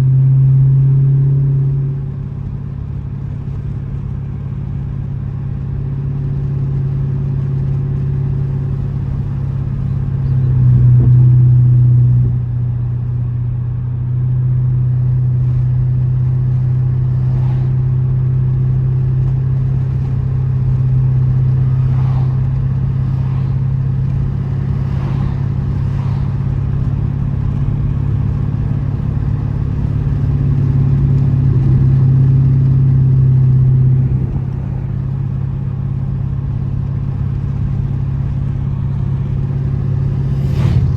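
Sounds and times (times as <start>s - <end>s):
car exhaust droning: 0.0s - 40.9s.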